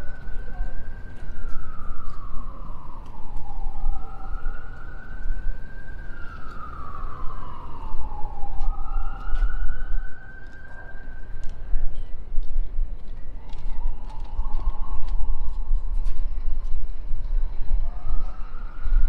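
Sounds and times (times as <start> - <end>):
emergency siren wailing: 0.0 - 12.3, 13.0 - 19.0
low city rumble: 0.0 - 19.0.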